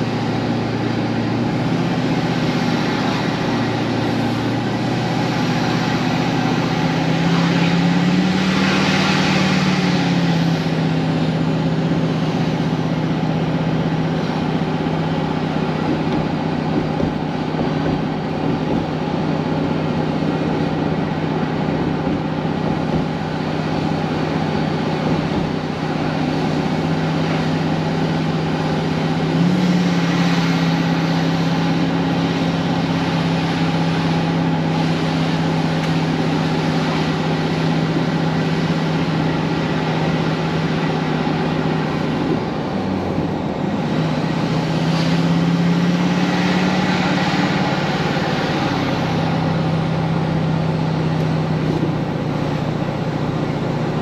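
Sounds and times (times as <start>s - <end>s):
road noise inside car: 0.0s - 54.0s
vehicle engine hum: 0.0s - 54.0s.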